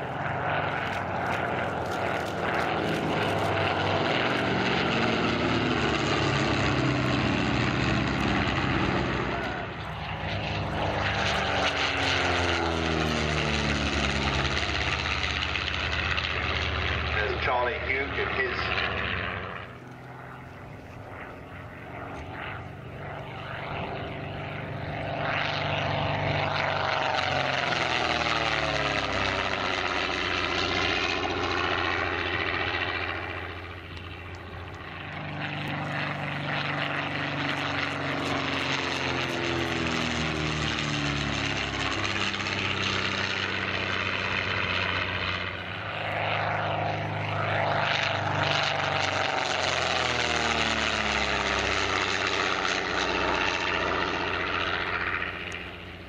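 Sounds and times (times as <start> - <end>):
propeller plane engine fly-by: 0.0 - 56.0.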